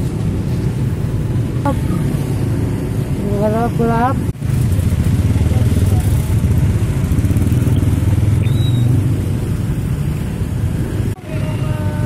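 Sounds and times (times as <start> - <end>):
traffic engines rumbling: 0.0 - 12.0.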